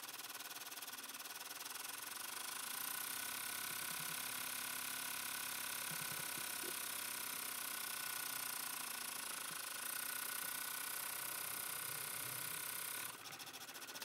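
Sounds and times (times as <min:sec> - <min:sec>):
embroidery machine stitching: 0:00.1 - 0:14.0.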